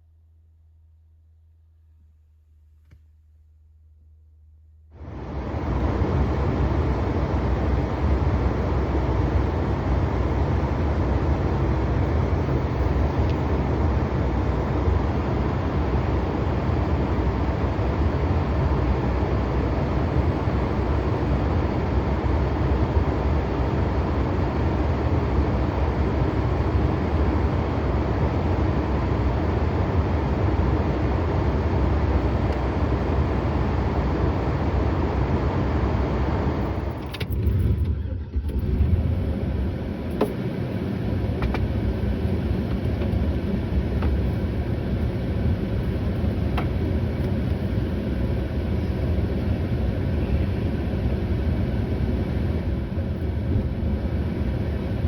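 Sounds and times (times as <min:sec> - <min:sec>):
vehicle engine running: 0:05.0 - 0:55.0.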